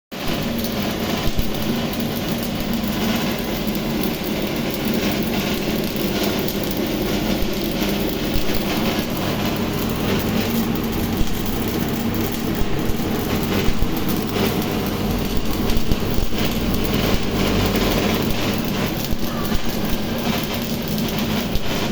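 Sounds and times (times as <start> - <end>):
welding arc crackling: 0.1 - 21.9.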